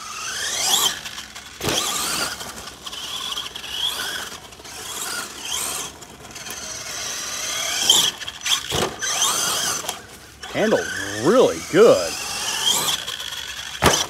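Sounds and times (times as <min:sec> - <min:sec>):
electric rc truck motor whining: 0:00.0 - 0:14.0.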